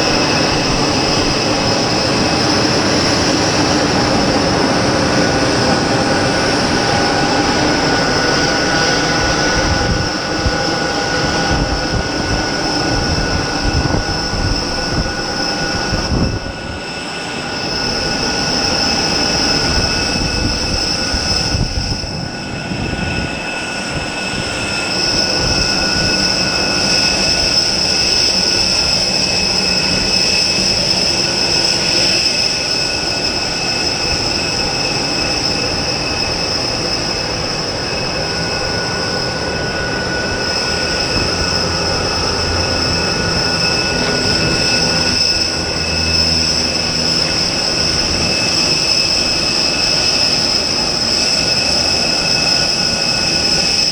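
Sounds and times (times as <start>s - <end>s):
airliner turbine whine: 0.0s - 53.9s.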